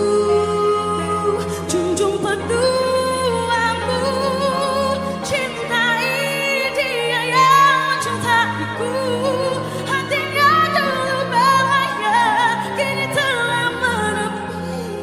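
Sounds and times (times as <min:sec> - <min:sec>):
woman singing pop ballad: 0:00.0 - 0:15.0.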